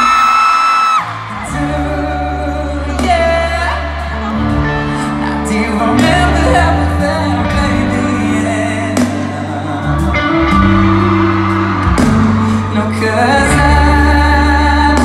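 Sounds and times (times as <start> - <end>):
pop band playing: 0.0 - 15.0
man singing: 1.0 - 11.5, 12.2 - 15.0.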